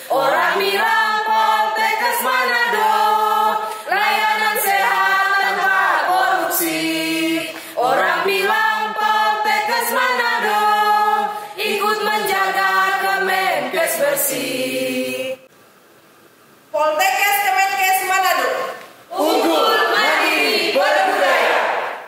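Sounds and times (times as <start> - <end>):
group singing a cheer: 0.0 - 15.5, 19.1 - 22.0.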